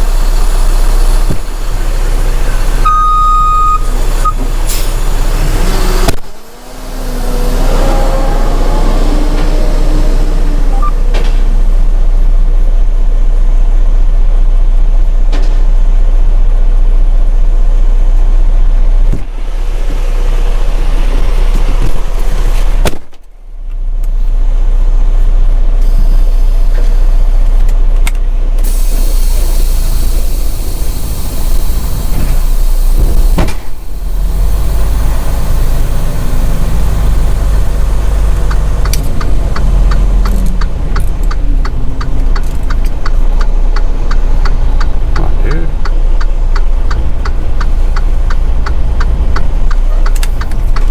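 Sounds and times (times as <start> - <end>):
truck engine and road rumble: 0.0 - 50.9.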